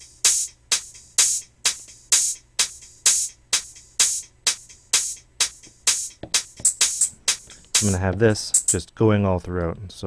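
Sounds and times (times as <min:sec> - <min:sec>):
drum machine hi-hat hits: 0:00.0 - 0:08.8.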